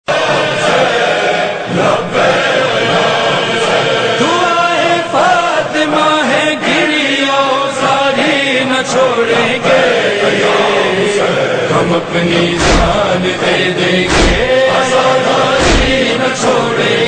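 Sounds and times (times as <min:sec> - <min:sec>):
men chanting a mourning chant: 0:00.1 - 0:17.0.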